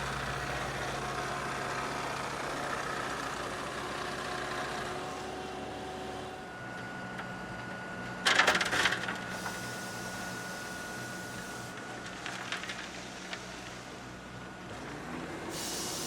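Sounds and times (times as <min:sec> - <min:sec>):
road-building machinery humming: 0:00.0 - 0:16.0.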